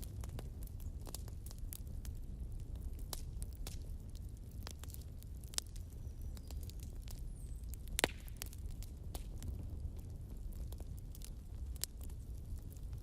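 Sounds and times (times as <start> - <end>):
logs crackling and popping: 0.0 - 13.0
low rumble of flame: 0.0 - 13.0.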